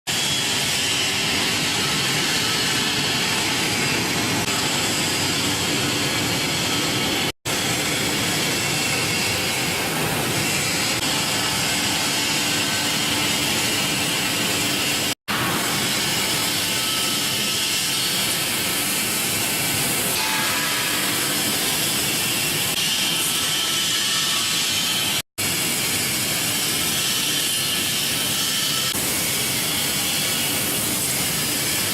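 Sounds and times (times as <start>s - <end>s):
machine noise: 0.1s - 31.9s.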